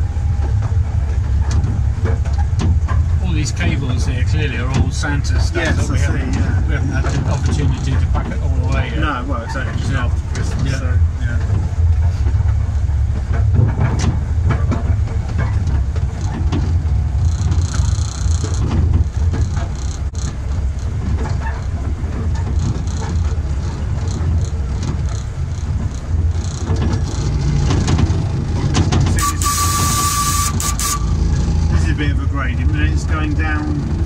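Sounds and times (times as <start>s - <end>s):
miniature train rumbling: 0.0s - 34.0s
wheels clicking over rail joints: 0.0s - 34.0s.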